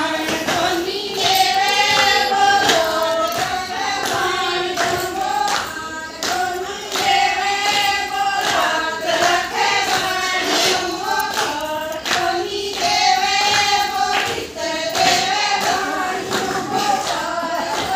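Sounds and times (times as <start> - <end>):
hand claps: 0.0 - 17.9
women singing in unison: 0.0 - 17.9.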